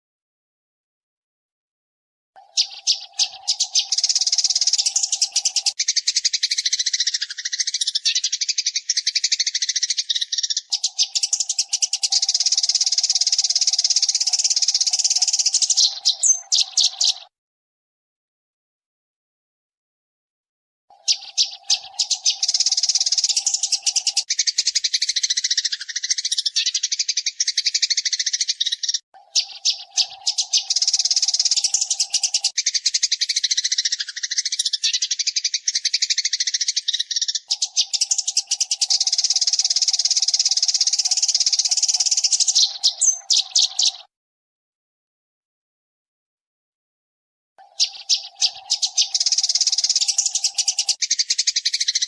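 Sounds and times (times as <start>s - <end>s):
sparrow chirping fast: 2.4s - 17.4s, 20.9s - 44.1s, 47.6s - 52.0s.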